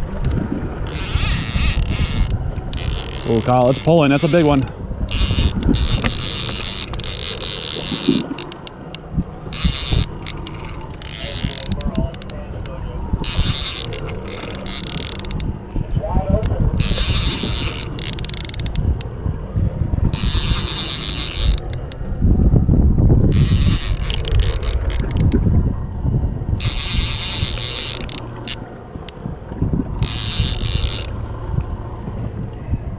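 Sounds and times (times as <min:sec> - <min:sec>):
fishing reel ratcheting: 0:00.2 - 0:15.7, 0:16.4 - 0:19.2, 0:20.1 - 0:22.1, 0:23.3 - 0:25.4, 0:26.6 - 0:29.2, 0:29.9 - 0:31.5.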